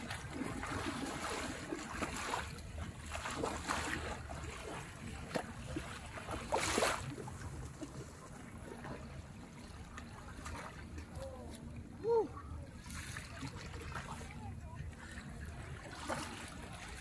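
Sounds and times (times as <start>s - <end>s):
seawater splashing around wading legs: 0.0s - 11.7s, 12.7s - 17.0s.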